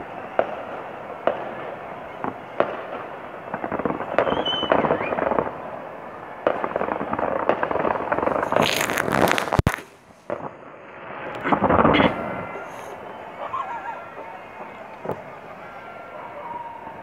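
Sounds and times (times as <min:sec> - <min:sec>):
fireworks bangs: 0:00.0 - 0:17.0
fireworks crackling: 0:00.0 - 0:17.0
fireworks rumbling: 0:00.0 - 0:17.0.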